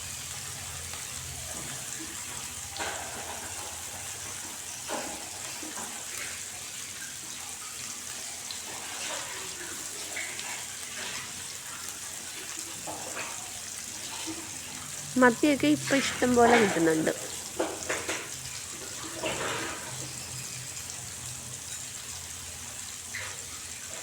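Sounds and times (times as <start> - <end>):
fish sizzling in a pan: 0.0 - 24.0.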